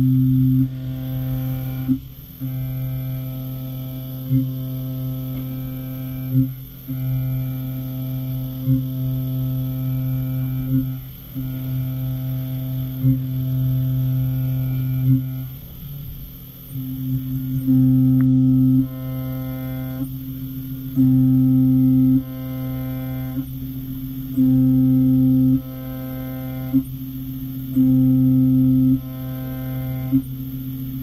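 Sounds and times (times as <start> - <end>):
milling machine spindle hum: 0.0 - 31.0.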